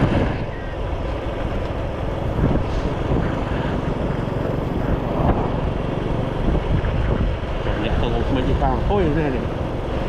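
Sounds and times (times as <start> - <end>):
wind buffeting microphone: 0.0 - 1.0, 1.6 - 9.8
motorcycle running: 0.0 - 10.0.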